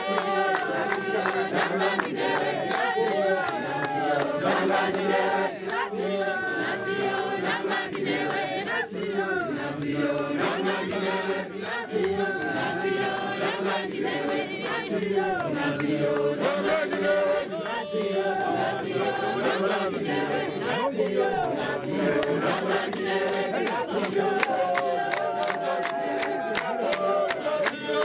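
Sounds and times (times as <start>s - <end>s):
congregation singing a hymn: 0.0s - 28.0s.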